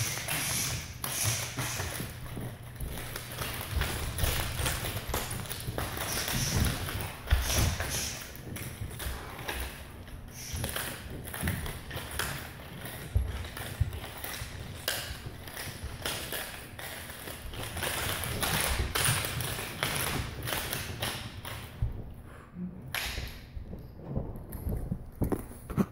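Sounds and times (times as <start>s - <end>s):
nunchucks swishing through air: 0.0s - 25.5s.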